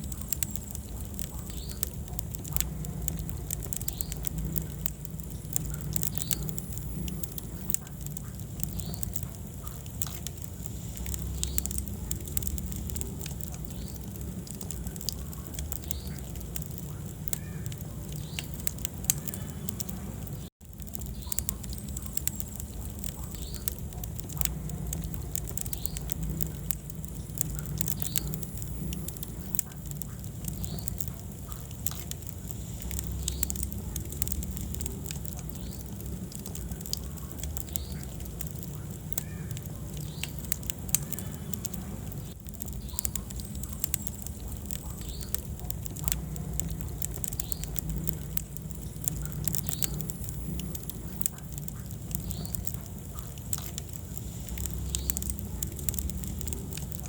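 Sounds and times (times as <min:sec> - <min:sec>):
low rush of flame: 0:00.0 - 0:57.0
wood fire crackling and popping: 0:00.0 - 0:57.0.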